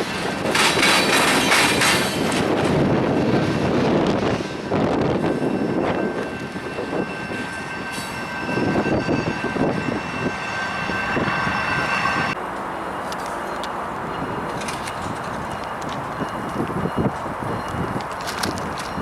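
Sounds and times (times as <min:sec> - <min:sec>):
freight train rumble and clatter: 0:00.0 - 0:19.0.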